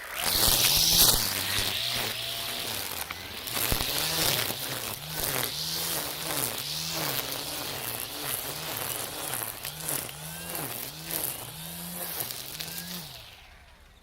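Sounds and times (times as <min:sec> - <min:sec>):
brush cutter motor whining: 0:00.0 - 0:14.0
hissing of cut grass: 0:00.0 - 0:14.0.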